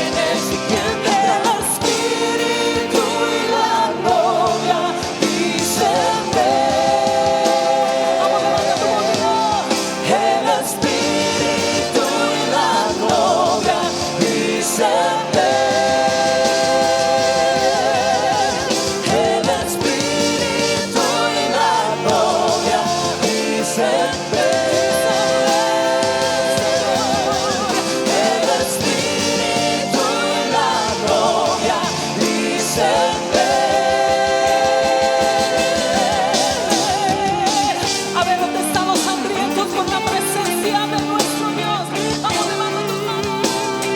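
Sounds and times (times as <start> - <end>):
person singing with vibrato: 0.0 - 43.9
worship band playing: 0.0 - 43.9.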